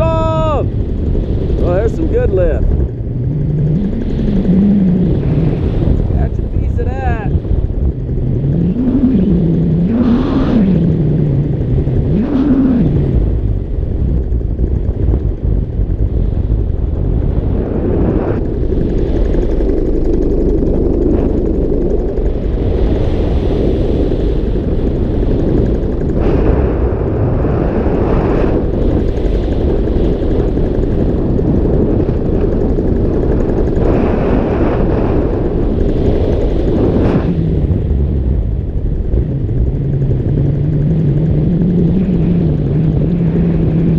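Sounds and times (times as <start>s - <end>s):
paramotor engine running: 0.0s - 43.9s
wind rushing over microphone: 0.0s - 43.9s.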